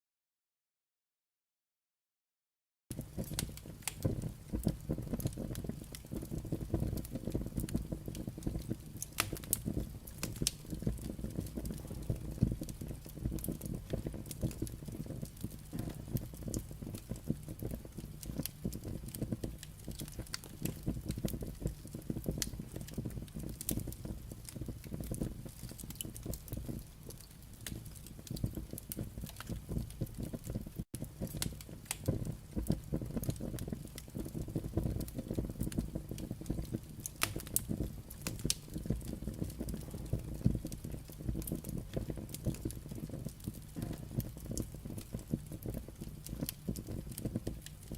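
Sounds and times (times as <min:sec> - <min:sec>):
fire rumbling: 0:02.9 - 0:47.9
logs crackling and popping: 0:02.9 - 0:47.9.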